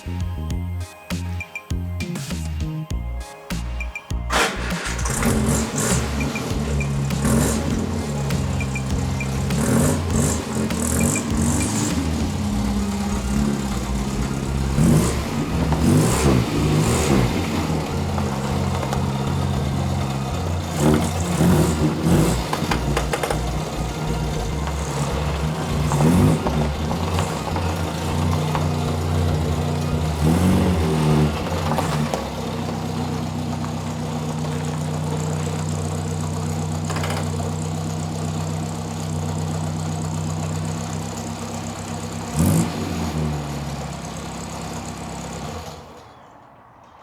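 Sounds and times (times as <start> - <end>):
pickup engine revving: 3.5 - 46.2.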